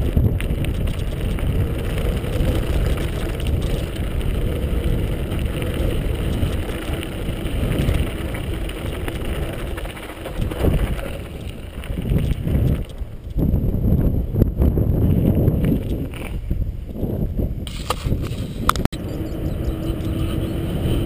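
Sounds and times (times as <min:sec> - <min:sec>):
bike rumbling on gravel: 0:00.0 - 0:21.0
wind buffeting microphone: 0:00.0 - 0:21.0.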